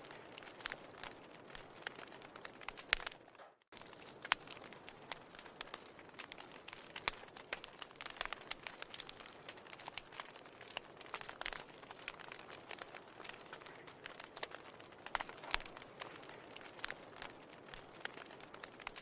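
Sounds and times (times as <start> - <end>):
fire hissing softly: 0.0 - 19.0
fire pops and snaps: 0.0 - 19.0.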